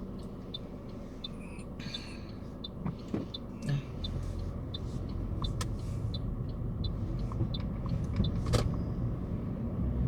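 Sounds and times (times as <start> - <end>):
turn signal ticking: 0.0 - 9.3
car engine and road rumble: 0.0 - 10.0.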